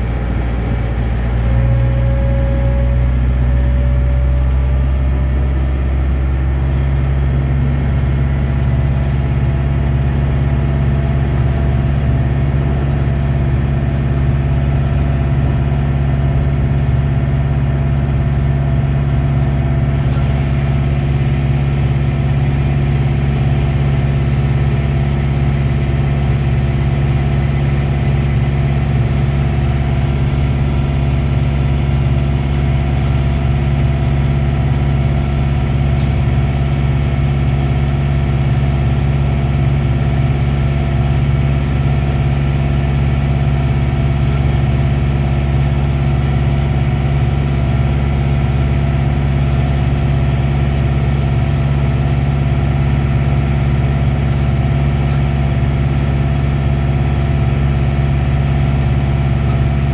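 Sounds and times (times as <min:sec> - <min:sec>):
locomotive engine running: 0:00.0 - 0:59.9.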